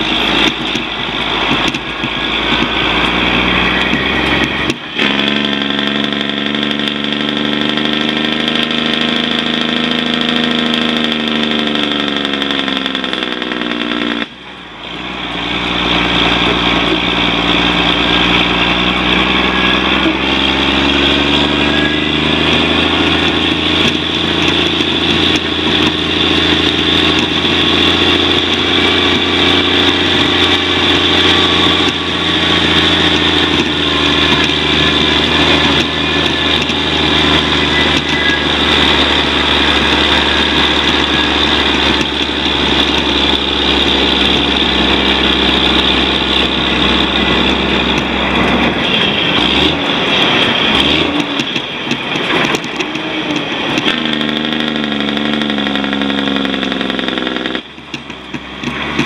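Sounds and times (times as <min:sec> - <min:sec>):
diesel truck engine running: 0:00.0 - 0:59.0
road and wind noise: 0:00.0 - 0:59.0.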